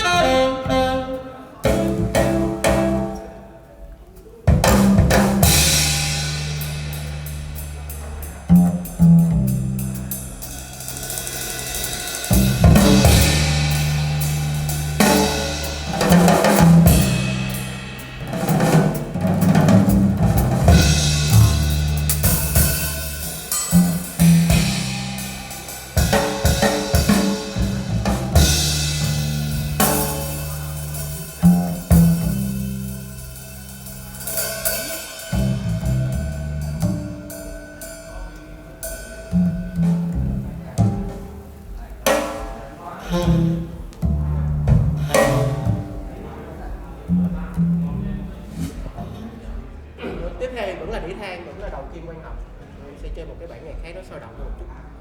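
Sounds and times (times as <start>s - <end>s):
jazz from loudspeakers: 0.0s - 50.0s.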